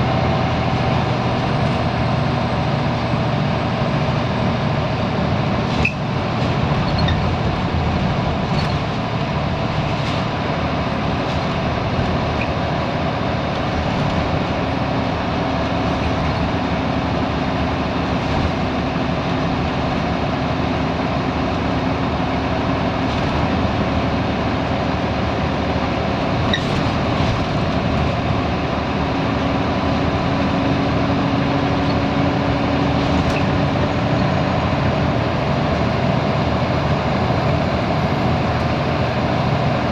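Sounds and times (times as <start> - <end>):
bus engine drone: 0.0 - 39.9
road noise: 0.0 - 39.9.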